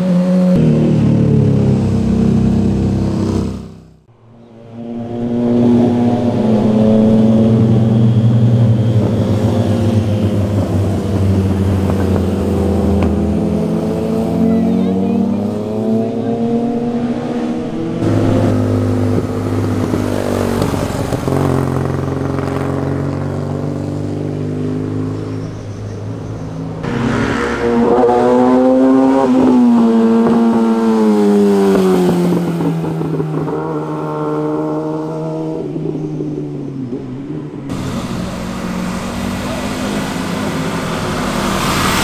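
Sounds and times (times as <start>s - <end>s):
motorcycles accelerating past: 4.4s - 25.9s, 26.8s - 36.4s, 37.7s - 42.0s.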